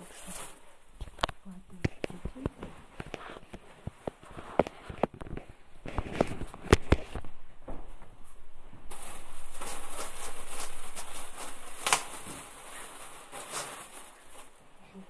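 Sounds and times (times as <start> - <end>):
rustling fabric: 0.0 - 15.0.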